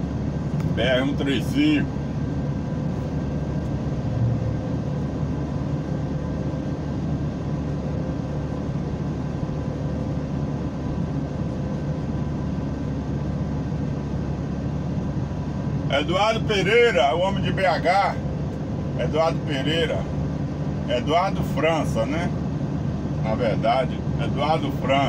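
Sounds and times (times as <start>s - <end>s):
faint steady whine: 0.0s - 25.0s
truck engine and road noise: 0.0s - 25.0s.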